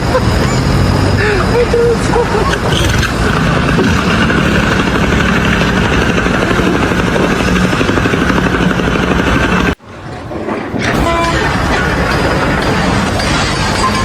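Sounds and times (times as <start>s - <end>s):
loud machine hum: 0.0s - 14.0s
steady noise: 0.0s - 14.0s.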